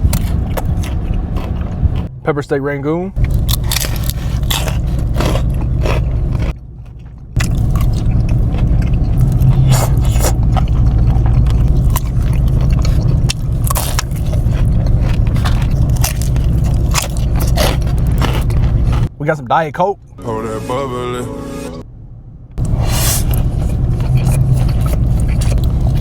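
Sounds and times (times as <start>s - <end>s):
crunching and chewing fried food: 0.0s - 2.1s, 3.2s - 19.1s, 22.6s - 26.0s
steady low hum: 0.0s - 26.0s.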